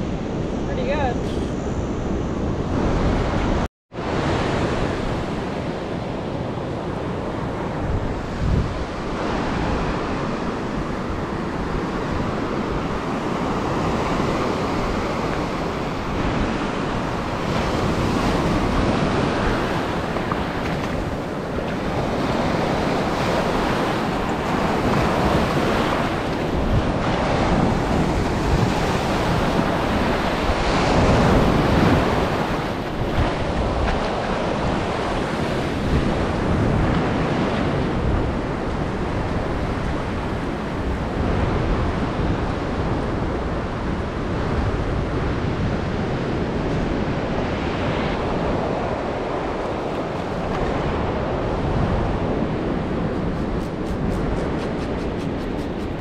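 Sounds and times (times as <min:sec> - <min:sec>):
ocean surf on sandy beach: 0:00.0 - 0:56.0
wind buffeting microphone: 0:00.0 - 0:56.0.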